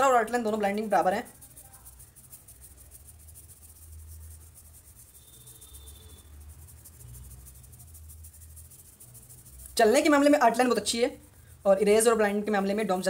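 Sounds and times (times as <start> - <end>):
fast pulsing hiss: 0.0 - 13.0.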